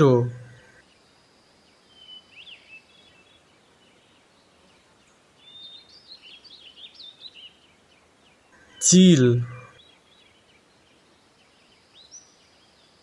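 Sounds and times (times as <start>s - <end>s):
faint high-pitched chirping: 0.1s - 13.0s.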